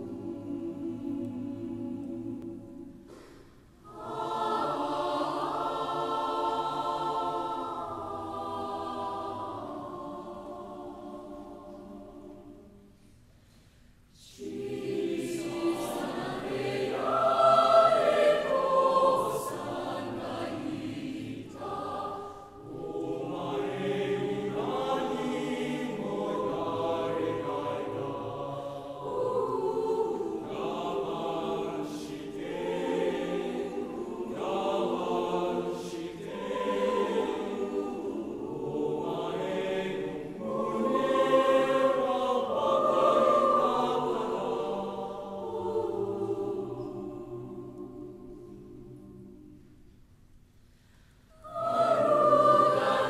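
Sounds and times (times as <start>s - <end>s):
mixed choir singing: 0.0s - 13.0s, 14.2s - 50.0s, 51.3s - 53.0s.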